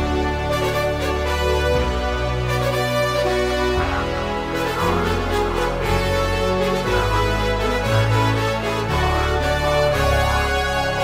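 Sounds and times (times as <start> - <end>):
instrumental music with chords: 0.0 - 11.0.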